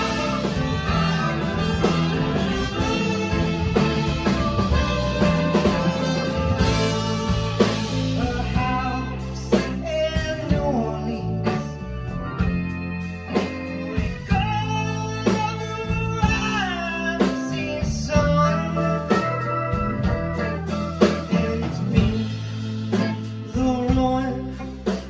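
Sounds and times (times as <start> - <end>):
lead melody line: 0.0 - 24.8
bass guitar: 0.0 - 25.0
drum kit: 0.0 - 25.0
electric guitar: 0.0 - 25.0.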